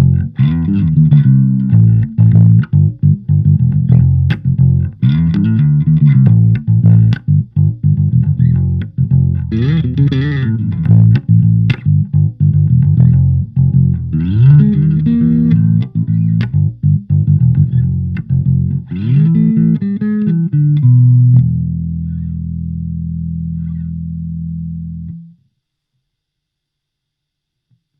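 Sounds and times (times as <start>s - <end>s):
electric bass riff: 0.0s - 25.4s.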